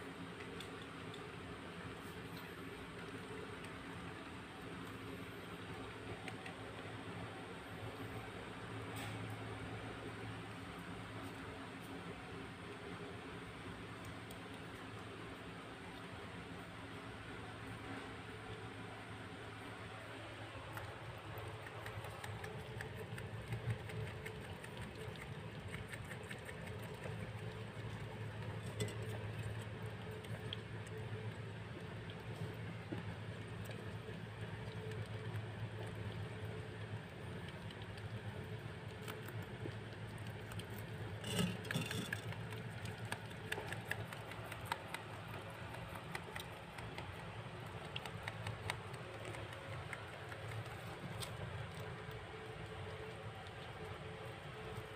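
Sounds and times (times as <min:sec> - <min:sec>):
rabbits nibbling grass: 0:00.0 - 0:54.9
steady low hum: 0:00.0 - 0:54.9.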